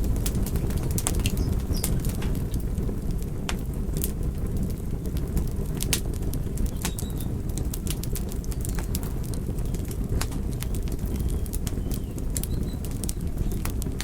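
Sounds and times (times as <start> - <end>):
low rush of flame: 0.0 - 14.0
wood fire crackling and popping: 0.0 - 14.0.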